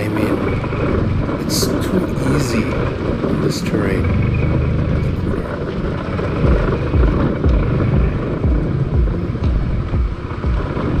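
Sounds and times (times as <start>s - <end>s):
low pulsing beat: 0.0s - 3.3s, 4.0s - 11.0s
four-wheeled motorcycle engine: 0.0s - 11.0s.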